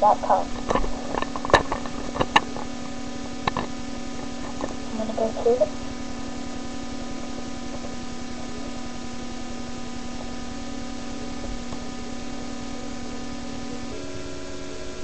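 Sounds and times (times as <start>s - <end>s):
constant hiss: 0.0s - 15.0s
electrical hum with held tones: 0.0s - 15.0s.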